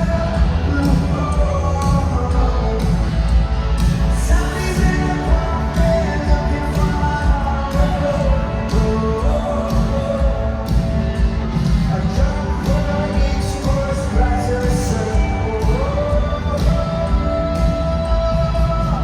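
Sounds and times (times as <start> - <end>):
person singing: 0.0 - 3.4, 4.1 - 11.0, 11.7 - 19.0
live rock band: 0.0 - 19.0
steady drum beat: 0.0 - 19.0.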